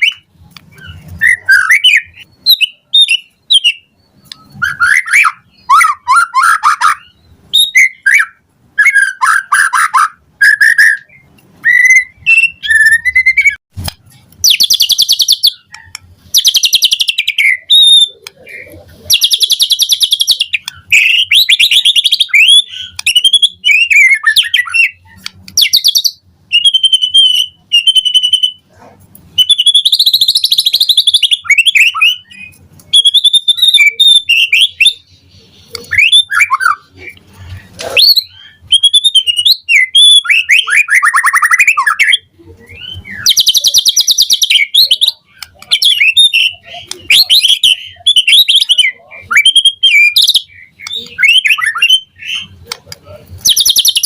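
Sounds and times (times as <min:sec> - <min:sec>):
songbird singing whistled phrases: 0:00.0 - 0:13.6, 0:14.4 - 0:28.7, 0:29.3 - 0:37.1, 0:37.9 - 0:52.8, 0:53.4 - 0:54.0.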